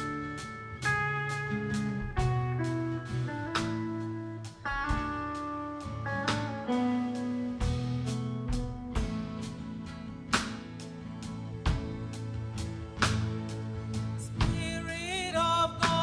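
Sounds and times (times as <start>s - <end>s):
guitar instrumental music: 0.0s - 16.0s.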